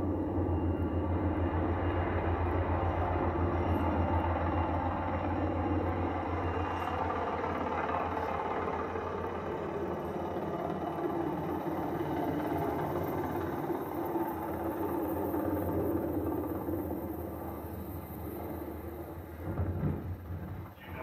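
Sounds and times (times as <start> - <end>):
helicopter rotor rumble: 0.0 - 21.0.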